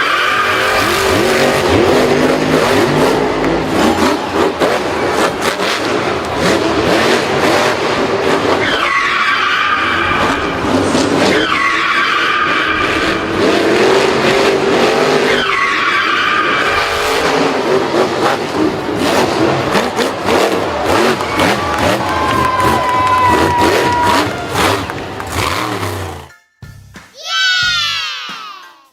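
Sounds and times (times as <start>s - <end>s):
racing car engines: 0.0s - 26.3s.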